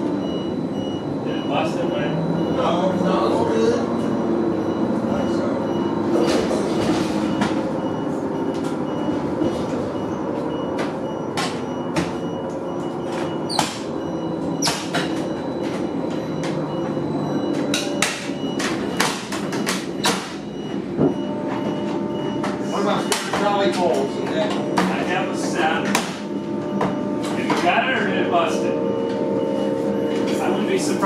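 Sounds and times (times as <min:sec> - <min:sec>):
steady bus hum: 0:00.0 - 0:31.0.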